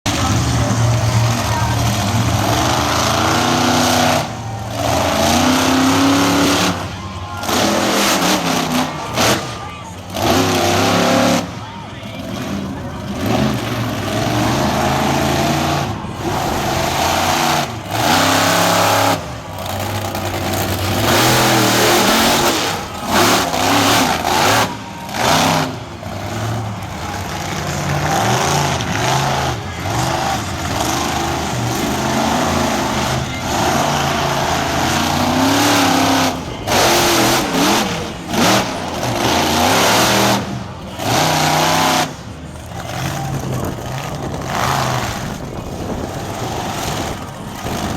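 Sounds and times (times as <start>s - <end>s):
monster truck engine revving: 0.0s - 47.9s.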